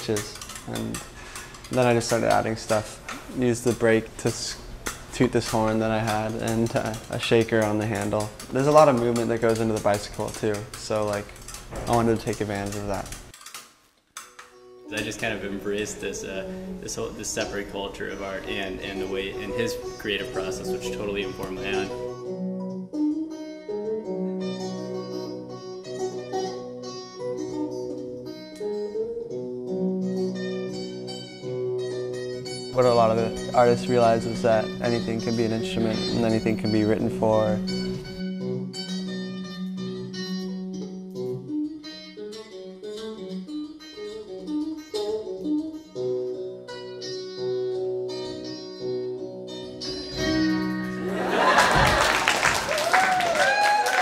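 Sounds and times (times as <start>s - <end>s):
plucked guitar music: 0.0s - 13.2s, 14.2s - 52.7s.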